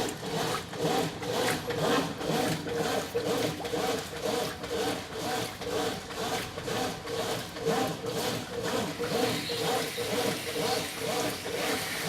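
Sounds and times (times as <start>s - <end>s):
agitator churning wash: 0.0s - 12.0s.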